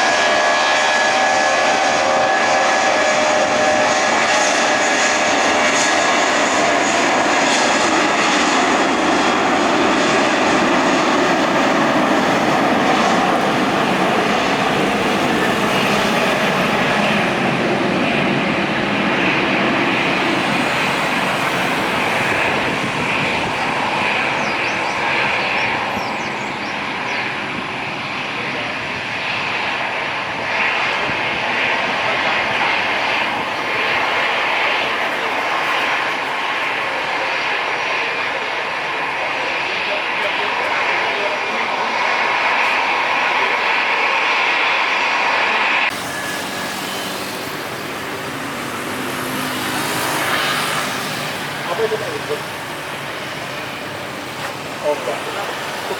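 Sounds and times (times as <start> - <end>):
jet engines running: 0.0 - 55.9.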